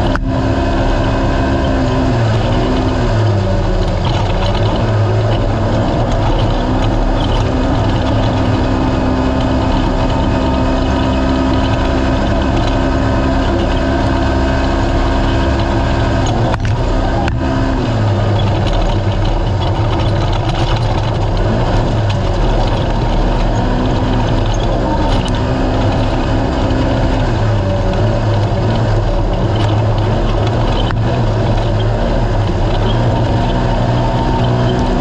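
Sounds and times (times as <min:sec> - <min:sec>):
engine running hard: 0:00.0 - 0:35.0
steady rushing noise: 0:00.0 - 0:35.0.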